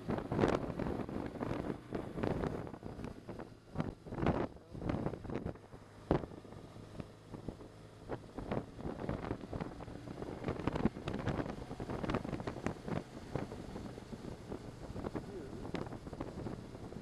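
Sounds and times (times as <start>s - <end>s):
faint motorcycle engine hum: 0.0s - 17.0s
wind buffeting microphone: 0.0s - 17.0s.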